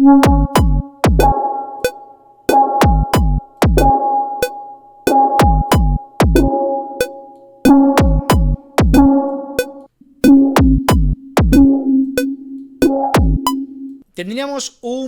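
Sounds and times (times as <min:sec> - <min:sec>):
electronic drum loop: 0:00.0 - 0:13.7
ringing feedback tones: 0:00.0 - 0:14.0.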